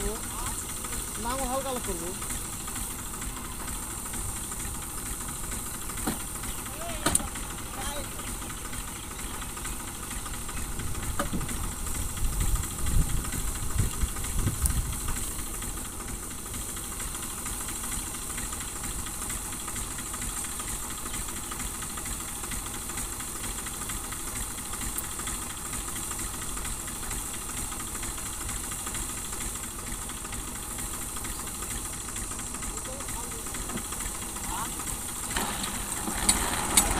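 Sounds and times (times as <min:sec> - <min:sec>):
steady hiss: 0:00.0 - 0:36.9
tractor diesel engine idling: 0:00.0 - 0:36.9.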